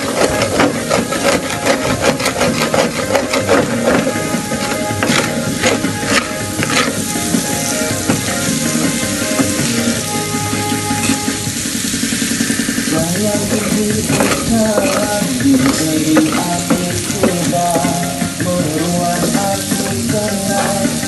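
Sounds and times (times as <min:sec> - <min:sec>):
background music with melody: 0:00.0 - 0:21.0
sauce sizzling in hot oil: 0:00.0 - 0:21.0
wooden spatula scraping pan: 0:00.0 - 0:21.0.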